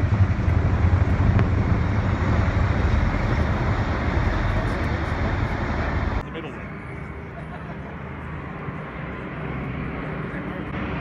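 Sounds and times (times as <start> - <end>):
helicopter rotor throb: 0.0 - 11.0.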